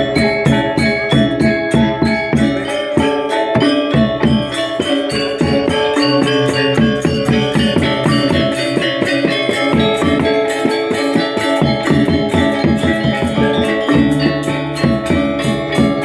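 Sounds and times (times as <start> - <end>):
drumming: 0.0 - 16.0
metallophones and gongs ringing: 0.0 - 16.0.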